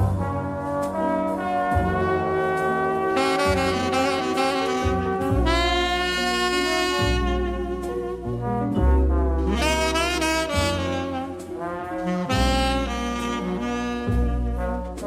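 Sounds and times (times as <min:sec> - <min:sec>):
big band orchestra playing: 0:00.0 - 0:15.0
bright high brass: 0:00.0 - 0:15.0.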